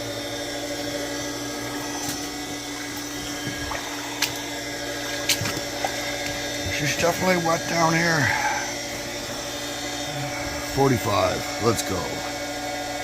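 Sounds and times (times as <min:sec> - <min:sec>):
water pump motor humming: 0:00.0 - 0:13.0.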